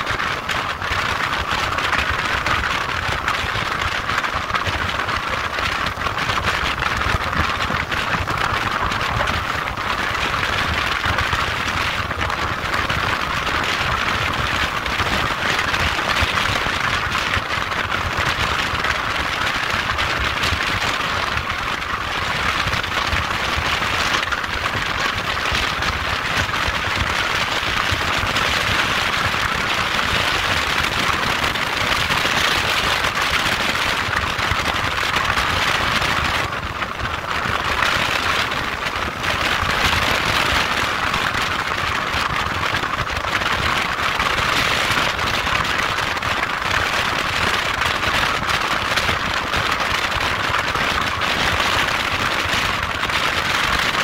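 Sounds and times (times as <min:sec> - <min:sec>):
wind and road hiss: 0:00.0 - 0:54.0.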